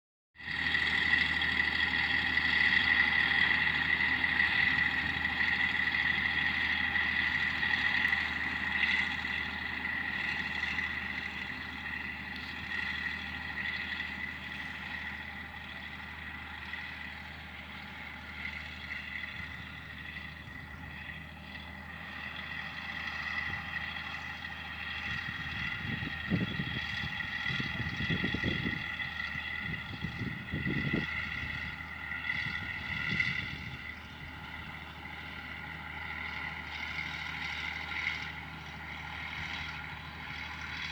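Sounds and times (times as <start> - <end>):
tractor engine running: 0.4 - 40.9.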